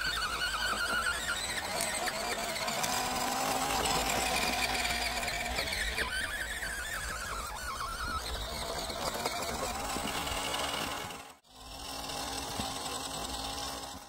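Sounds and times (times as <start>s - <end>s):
toy car electric motor whine: 0.0s - 14.0s.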